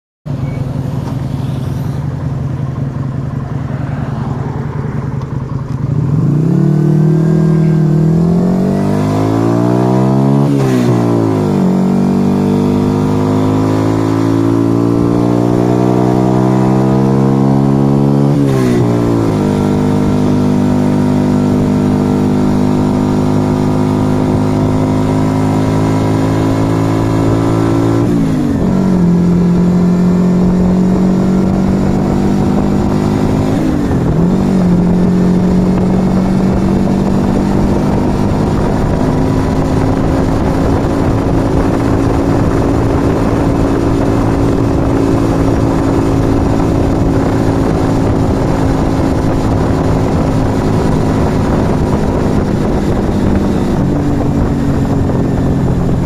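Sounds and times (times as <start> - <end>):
motorcycle engine revving: 0.3 - 56.0.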